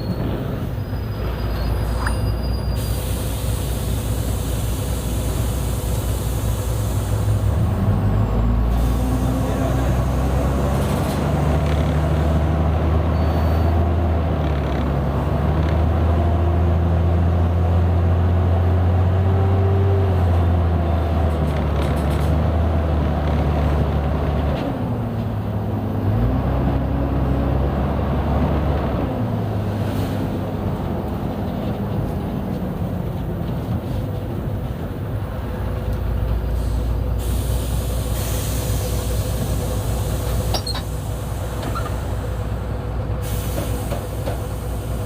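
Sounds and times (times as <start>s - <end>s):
bus diesel engine running: 0.0s - 45.0s.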